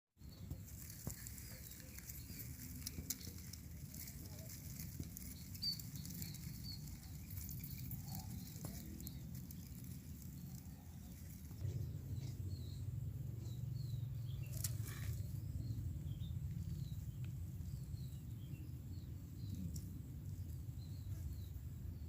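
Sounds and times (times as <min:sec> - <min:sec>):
low rumble of wind: 0:00.2 - 0:22.0.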